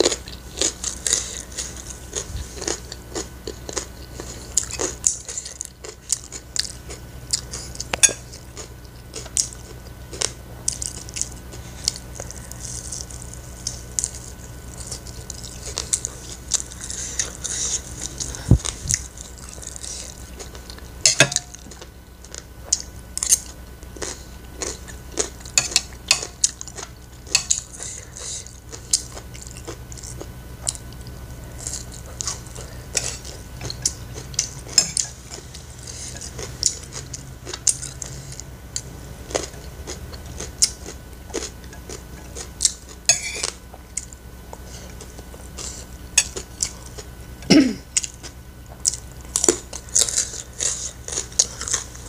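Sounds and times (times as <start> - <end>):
wet chewing and crunching: 0.0 - 52.0.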